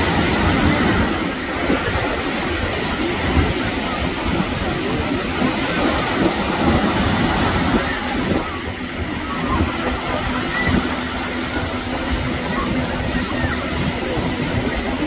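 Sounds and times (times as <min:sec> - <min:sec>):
small waves washing: 0:00.0 - 0:15.0
wind buffeting microphone: 0:00.0 - 0:15.0.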